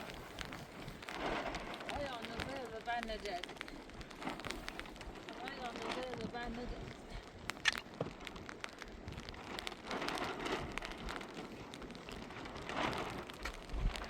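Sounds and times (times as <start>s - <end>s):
rain falling: 0.0s - 14.0s
ticks of raindrops: 0.0s - 14.0s.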